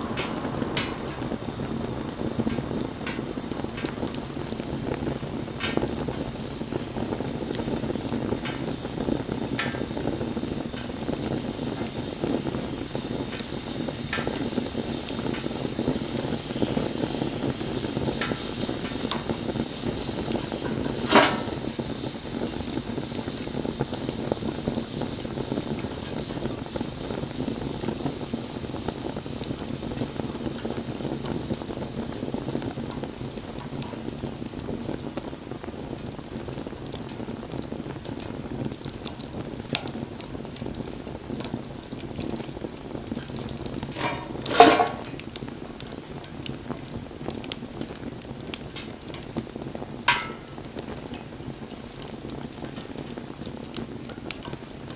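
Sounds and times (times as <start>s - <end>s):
fire pops: 0.0s - 54.9s
wood fire crackling: 0.0s - 54.9s.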